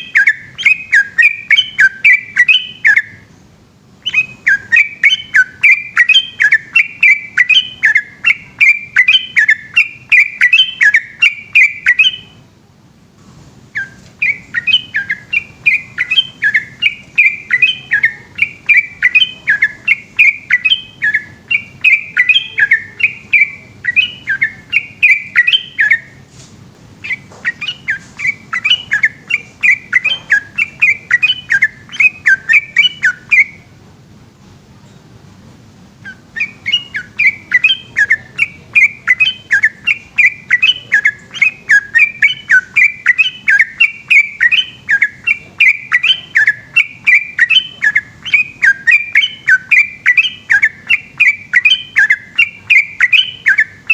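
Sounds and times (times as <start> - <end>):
bulbul singing rapid chirps: 0.0 - 12.5, 13.7 - 26.3, 27.0 - 33.7, 35.9 - 53.9.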